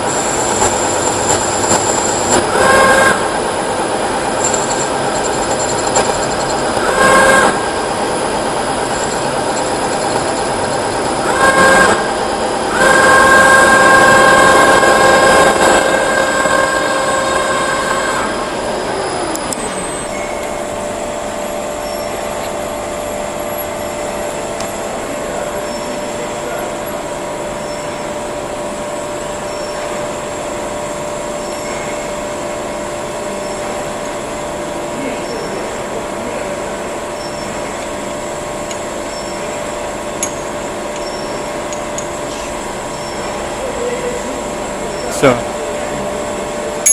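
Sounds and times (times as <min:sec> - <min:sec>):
lathe whine: 0:00.0 - 0:46.9.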